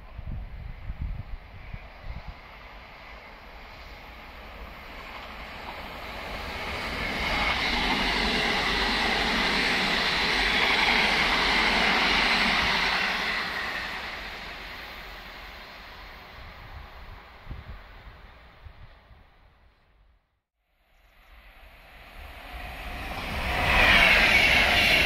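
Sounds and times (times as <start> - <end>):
train passing at speed: 0.0 - 19.6, 20.8 - 25.0.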